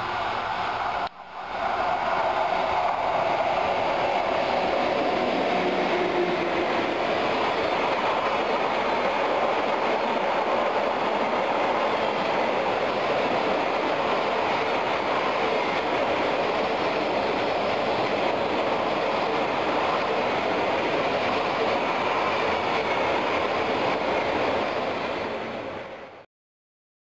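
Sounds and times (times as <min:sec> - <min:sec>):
freight train rolling past: 0:00.0 - 0:26.2.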